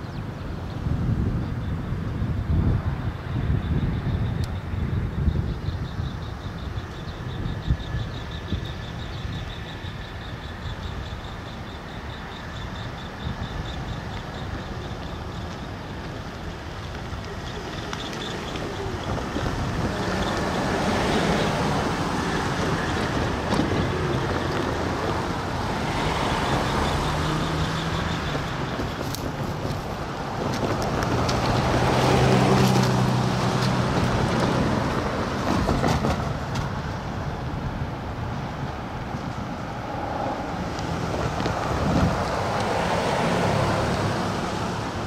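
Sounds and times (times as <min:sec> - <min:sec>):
wind on microphone: 0:00.0 - 0:11.3, 0:12.6 - 0:45.0
distant locomotive engine rumble: 0:00.0 - 0:45.0.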